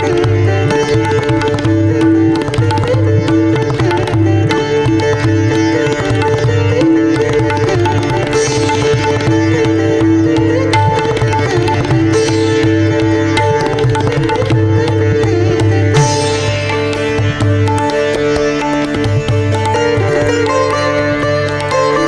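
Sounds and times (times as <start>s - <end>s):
sitar plucked melody: 0.0s - 22.0s
tabla strokes: 0.0s - 22.0s.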